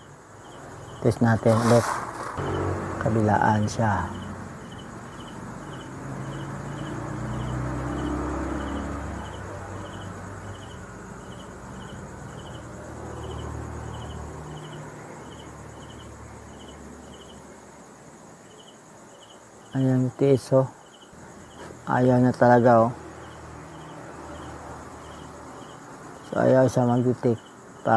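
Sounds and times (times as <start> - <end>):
cricket chirping: 0.0 - 27.9.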